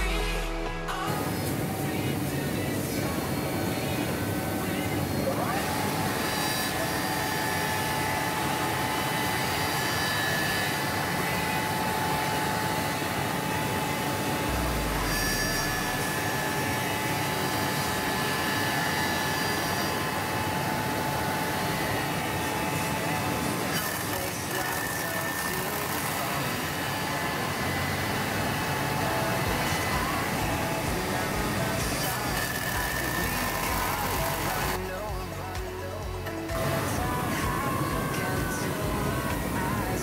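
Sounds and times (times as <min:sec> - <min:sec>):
motor whine: 0:00.0 - 0:40.0
wood lathe running: 0:04.6 - 0:40.0.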